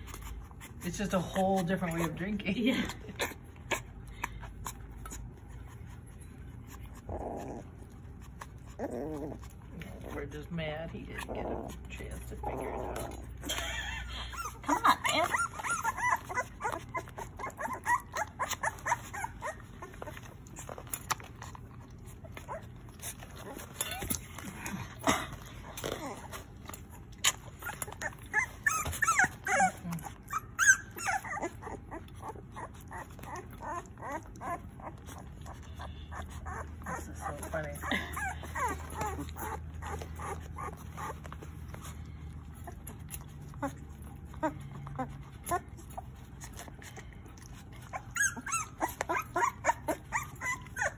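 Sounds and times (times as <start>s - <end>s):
puppy squeaking and whimpering: 0.0s - 50.9s.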